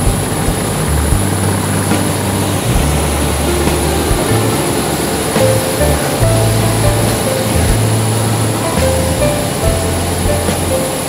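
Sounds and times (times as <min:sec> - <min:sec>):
simple melody over bass line: 0:00.0 - 0:11.0.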